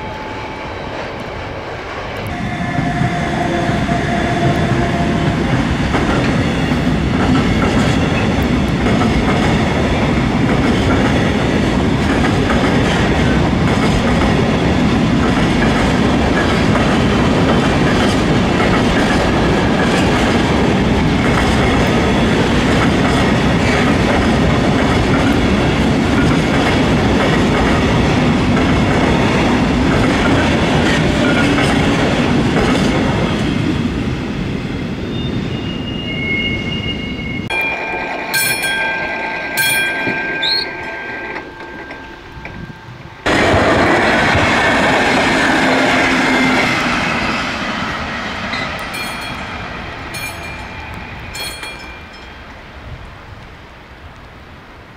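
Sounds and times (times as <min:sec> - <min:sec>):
train wheels rumbling on rails: 0:00.0 - 0:54.8.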